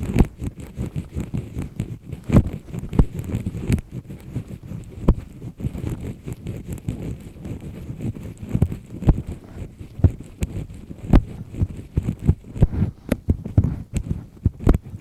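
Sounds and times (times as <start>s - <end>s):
earpick scraping inside ear: 0.0s - 15.0s.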